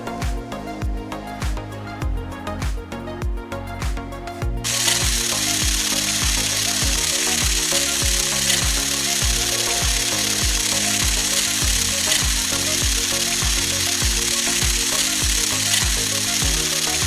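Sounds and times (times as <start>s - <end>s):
electronic music with kick drum: 0.0s - 17.0s.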